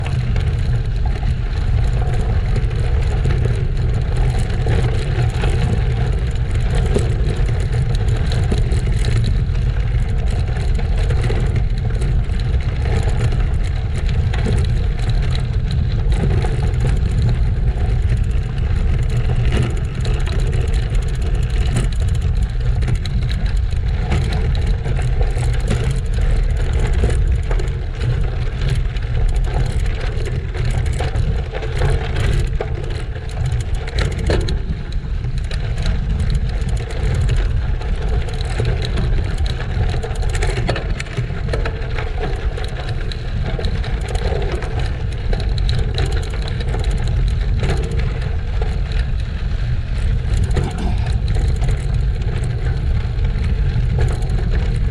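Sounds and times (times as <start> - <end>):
bicycle tyres rolling on gravel: 0.0 - 54.9
wind rumble on microphone: 0.0 - 54.9.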